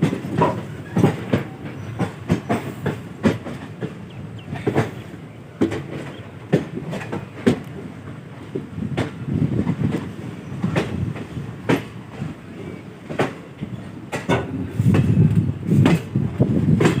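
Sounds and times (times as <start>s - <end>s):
low rumble of moving train: 0.0s - 17.0s
train wheels clacking over rail joints: 0.0s - 17.0s.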